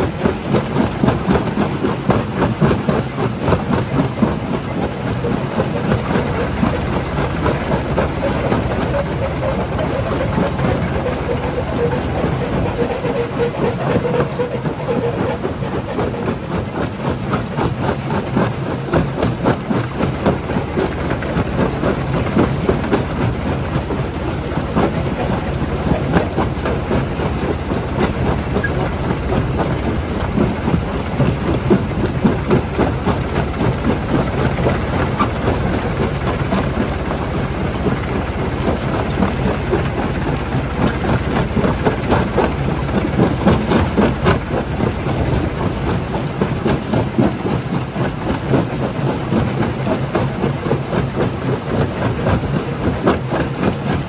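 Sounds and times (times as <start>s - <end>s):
crusher machine drone: 0.0s - 54.0s.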